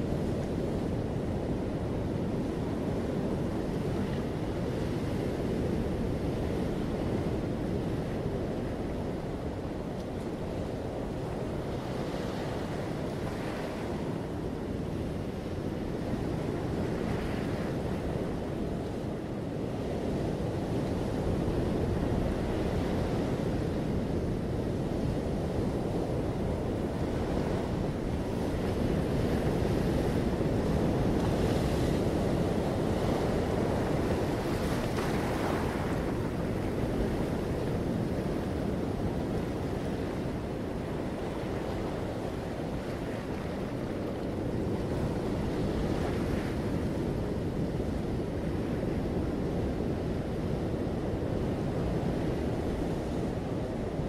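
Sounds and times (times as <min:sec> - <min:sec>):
surf on rocky shore: 0:00.0 - 0:54.0
wind on microphone: 0:00.0 - 0:54.0.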